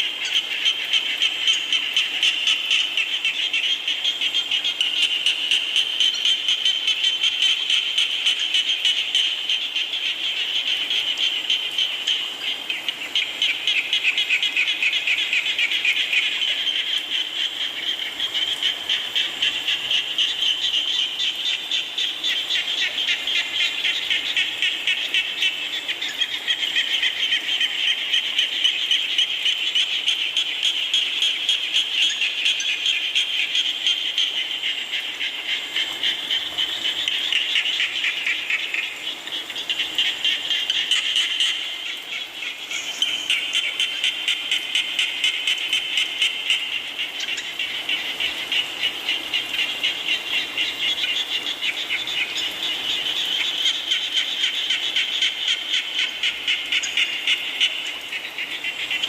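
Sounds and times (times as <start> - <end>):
faint rain hiss: 0.0 - 59.0
frogs calling in trills: 0.0 - 59.0.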